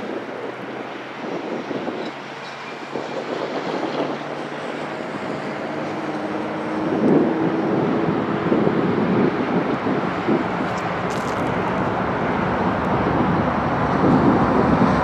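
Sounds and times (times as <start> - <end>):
diesel locomotive engines: 0.0 - 15.0.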